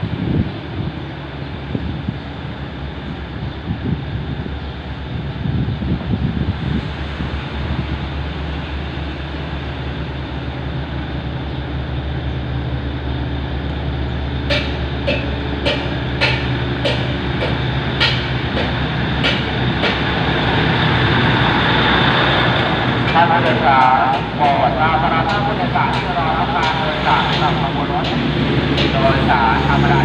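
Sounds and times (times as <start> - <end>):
coaches rolling on rails: 0.0 - 30.0
train engine rumble: 0.0 - 30.0.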